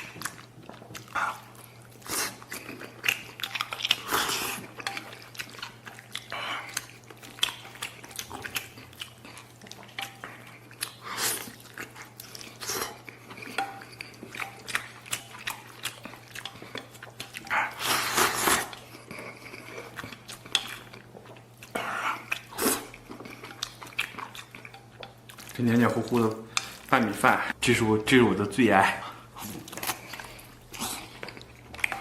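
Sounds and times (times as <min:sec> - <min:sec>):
person chewing and biting: 0:00.0 - 0:26.9, 0:29.3 - 0:32.0.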